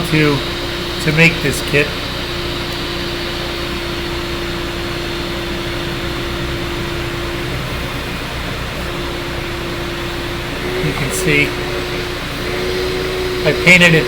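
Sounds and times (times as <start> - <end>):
mechanical hum with pitched drone: 0.0 - 14.0.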